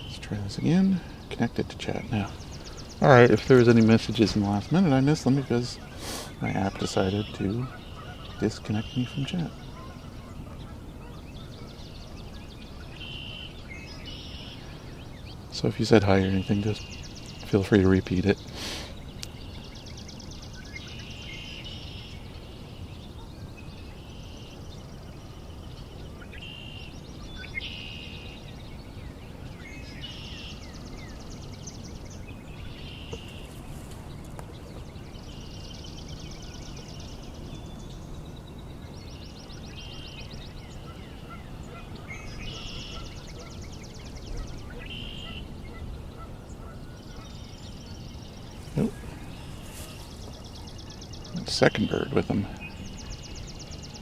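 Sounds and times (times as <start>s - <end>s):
low outdoor background noise: 0.0s - 54.0s
songbirds trilling: 0.0s - 54.0s.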